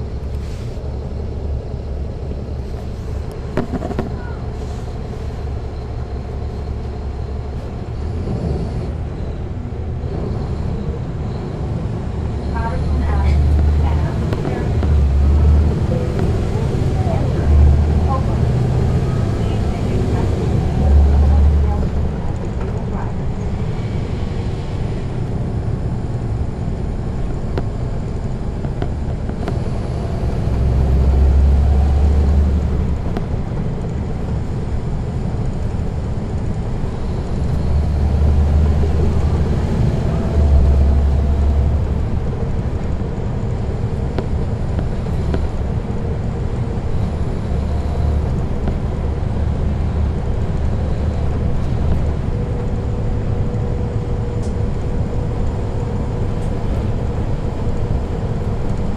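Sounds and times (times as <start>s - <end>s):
bus diesel engine rumble: 0.0s - 58.9s.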